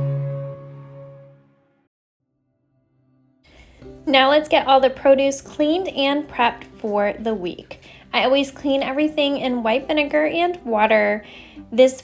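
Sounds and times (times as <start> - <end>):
background music with held notes: 0.0 - 1.7, 3.5 - 12.0.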